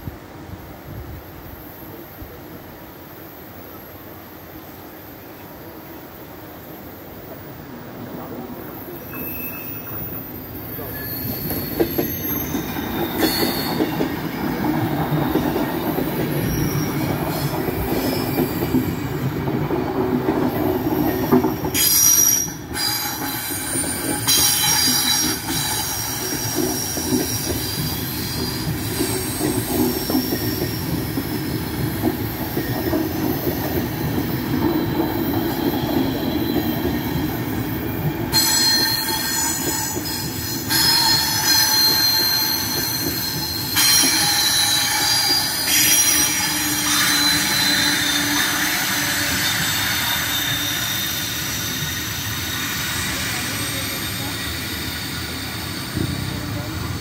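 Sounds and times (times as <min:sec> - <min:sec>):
train wheels rumbling on rails: 0:07.0 - 0:57.0
high-pitched wheel squeals: 0:08.9 - 0:14.7, 0:15.6 - 0:19.4, 0:20.5 - 0:56.9.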